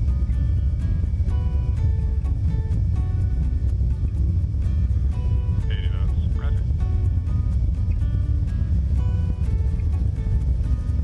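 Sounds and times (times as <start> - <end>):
aircraft cockpit low rumble: 0.0 - 11.0
background music: 0.0 - 11.0.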